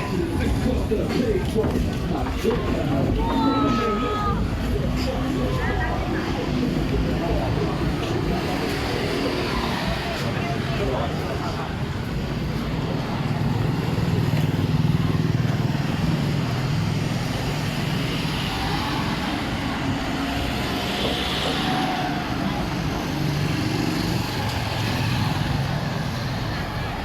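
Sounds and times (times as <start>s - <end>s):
street noise: 0.0s - 27.0s
vehicles passing: 0.0s - 27.0s.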